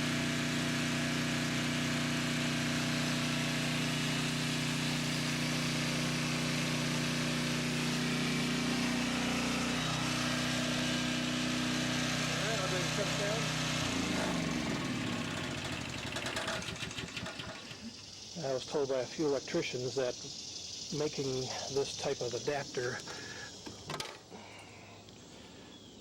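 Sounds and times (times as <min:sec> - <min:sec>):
generator engine hum: 0:00.0 - 0:25.6.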